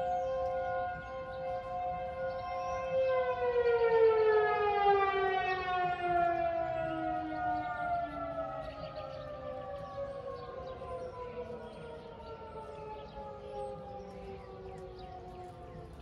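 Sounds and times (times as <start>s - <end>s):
siren steady wail: 0.0s - 16.0s.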